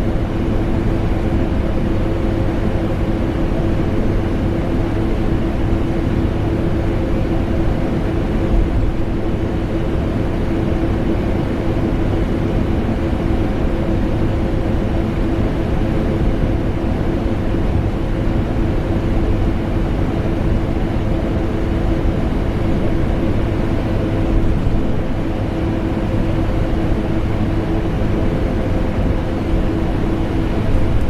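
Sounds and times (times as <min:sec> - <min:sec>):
air conditioner noise: 0:00.0 - 0:31.0.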